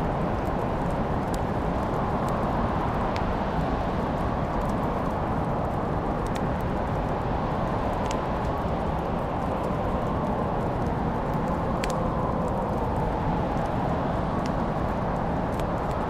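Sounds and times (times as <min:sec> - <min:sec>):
wood fire crackling: 0:00.0 - 0:16.0
fire popping: 0:00.1 - 0:03.4, 0:04.0 - 0:16.0.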